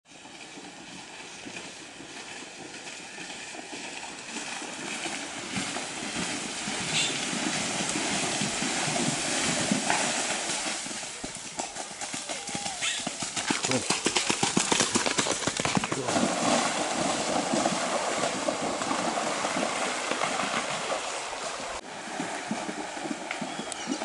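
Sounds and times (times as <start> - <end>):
hooves splashing through water: 0.0 - 24.0.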